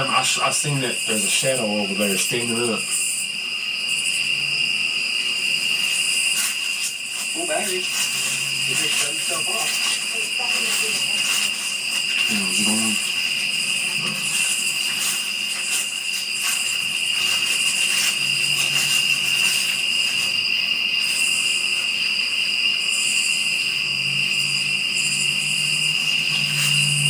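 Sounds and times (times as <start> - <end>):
night insects trilling: 0.0 - 27.0.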